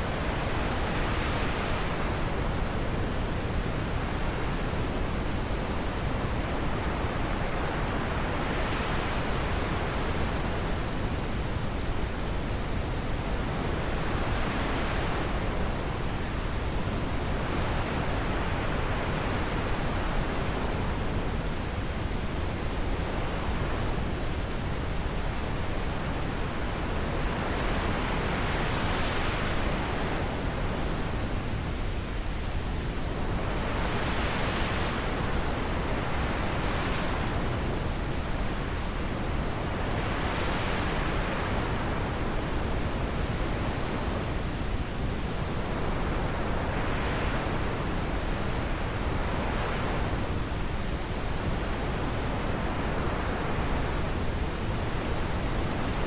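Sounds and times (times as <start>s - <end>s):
wind blowing through trees: 0.0s - 56.0s.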